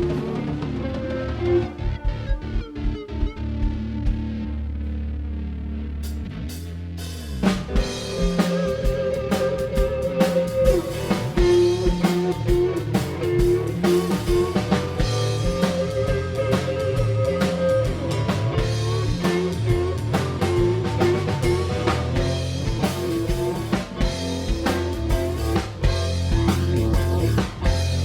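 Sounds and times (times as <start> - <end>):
drum kit beat: 0.0 - 4.2, 6.0 - 28.0
bass guitar: 0.0 - 28.0
electric guitar riff: 0.0 - 28.0.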